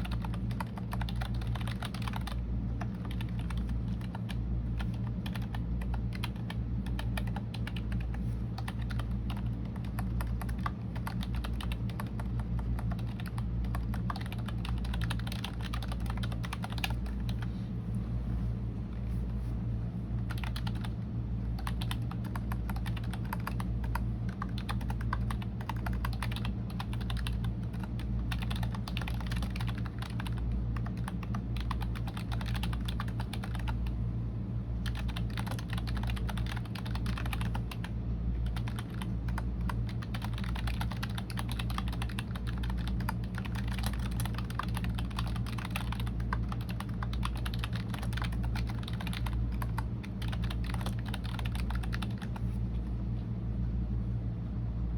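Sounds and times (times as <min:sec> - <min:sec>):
computer keyboard typing: 0:00.0 - 0:17.5, 0:20.2 - 0:33.9, 0:34.8 - 0:52.5
steady low hum: 0:00.0 - 0:54.9.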